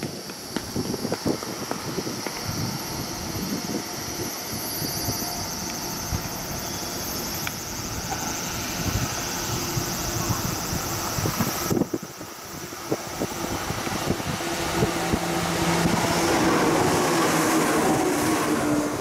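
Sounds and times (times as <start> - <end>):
high-pitched pulsing buzz: 0.0 - 19.0
train motors and wheels rumbling: 0.0 - 19.0.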